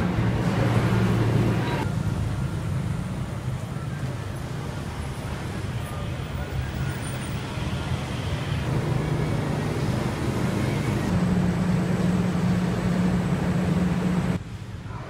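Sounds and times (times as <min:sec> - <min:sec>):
street traffic engine hum: 0:00.0 - 0:15.0.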